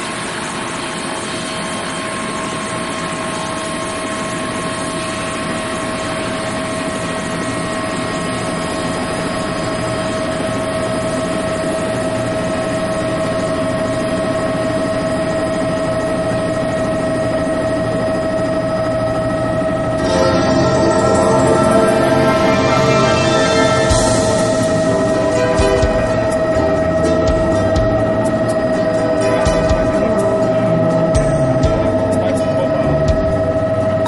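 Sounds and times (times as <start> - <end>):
helicopter rotor noise: 0.0 - 34.0
helicopter turbine whine: 0.0 - 34.0.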